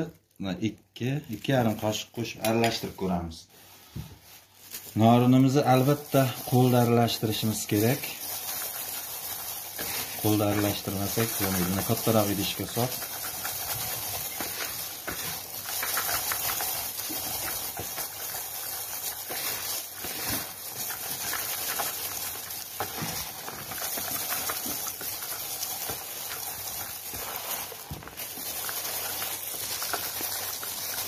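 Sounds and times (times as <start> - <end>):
hands mixing wet noodles: 1.2 - 31.0.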